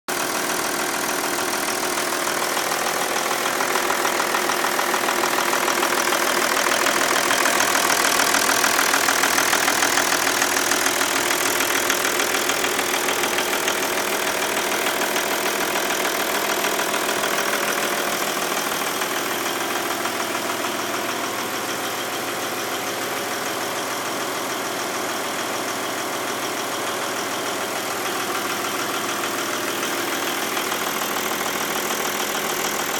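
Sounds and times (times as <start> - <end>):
diesel engine idling: 0.1 - 32.9
rapid valve train clatter: 0.2 - 32.9.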